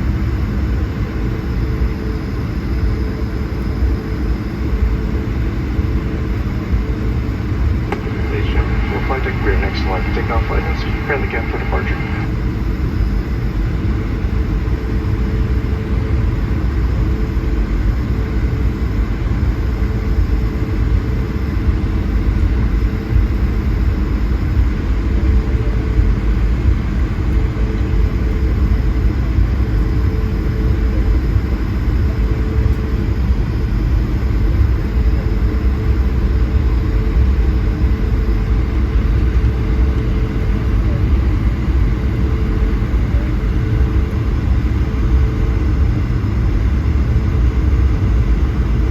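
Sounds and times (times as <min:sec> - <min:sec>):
aircraft engine cabin rumble: 0:00.0 - 0:48.9
faint steady hum: 0:03.6 - 0:48.9.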